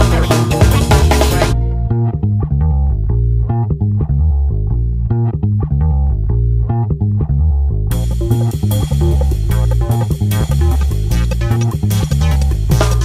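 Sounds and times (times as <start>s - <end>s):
plucked bass and guitar music: 0.0s - 13.0s.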